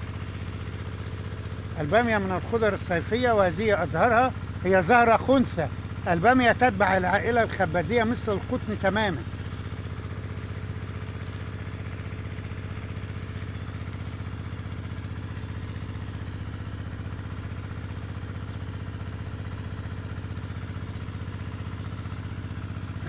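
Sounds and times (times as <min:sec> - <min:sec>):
motor humming steadily: 0:00.0 - 0:23.0.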